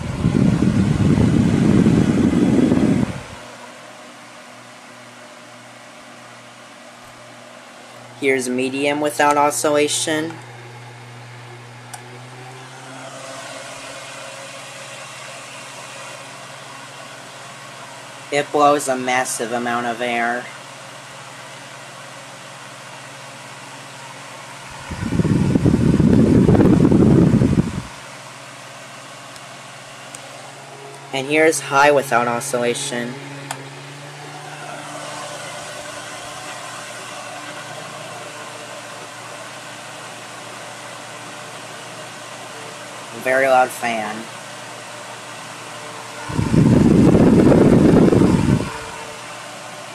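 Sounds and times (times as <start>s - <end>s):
table fan running: 0.0s - 49.9s.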